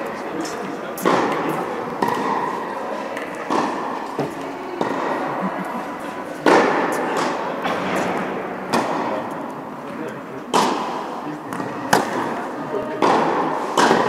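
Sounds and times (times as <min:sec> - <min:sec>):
tennis balls struck by rackets: 0:00.0 - 0:14.0
tennis balls bouncing on court: 0:01.0 - 0:09.6, 0:10.4 - 0:14.0.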